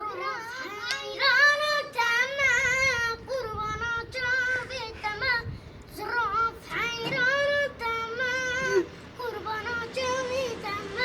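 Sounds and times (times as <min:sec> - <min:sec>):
child singing solo: 0:00.0 - 0:11.0.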